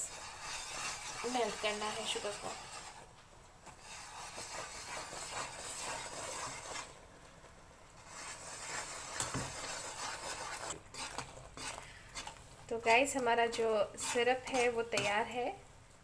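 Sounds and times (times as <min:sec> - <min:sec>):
metal spoon scraping pan: 0:00.0 - 0:07.0, 0:08.0 - 0:15.6
bubbling syrup sizzling: 0:00.0 - 0:16.0.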